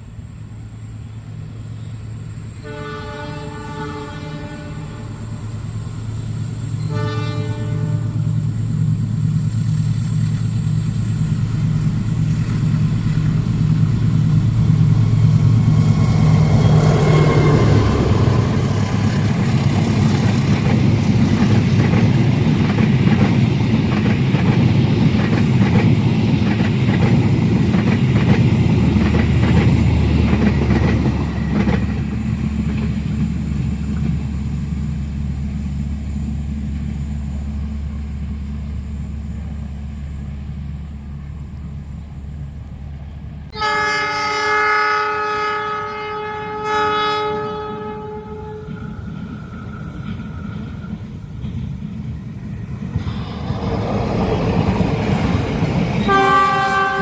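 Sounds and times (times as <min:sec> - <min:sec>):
diesel locomotive engine drone: 0:00.0 - 0:57.0
train rumble: 0:00.0 - 0:57.0.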